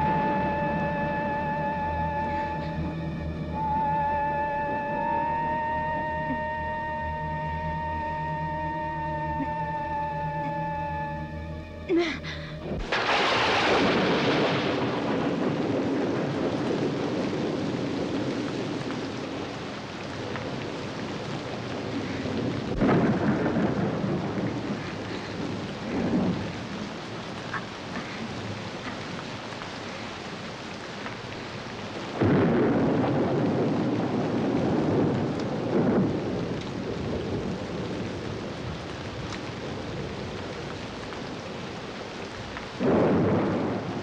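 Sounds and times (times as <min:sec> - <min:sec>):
rolling thunder: 0:00.0 - 0:11.3, 0:12.6 - 0:44.0
steady rain: 0:00.0 - 0:44.0.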